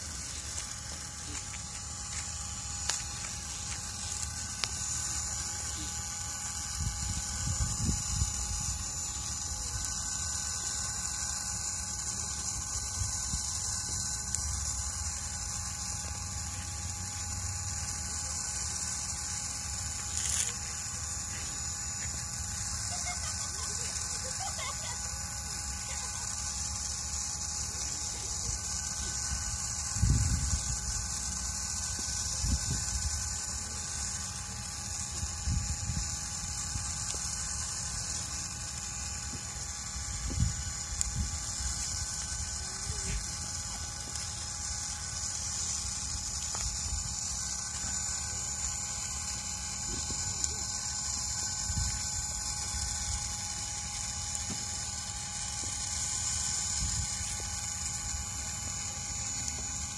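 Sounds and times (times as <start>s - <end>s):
rotisserie motor humming: 0.0s - 59.9s
steady hiss: 0.0s - 59.9s.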